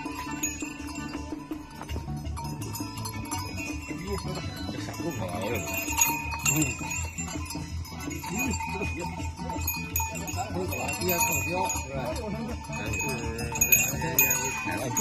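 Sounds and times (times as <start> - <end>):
harness bells jingling: 0.0 - 15.0.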